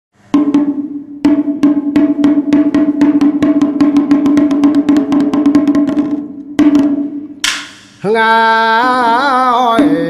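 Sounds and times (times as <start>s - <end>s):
drum roll accelerating: 0.3s - 9.0s.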